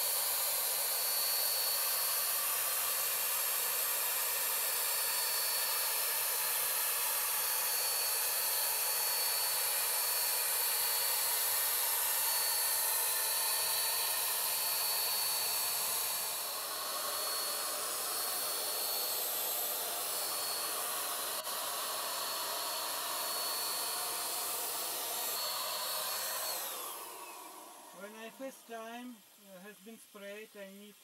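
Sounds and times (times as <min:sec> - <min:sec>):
paint sprayer whining and rushing: 0:00.0 - 0:29.1.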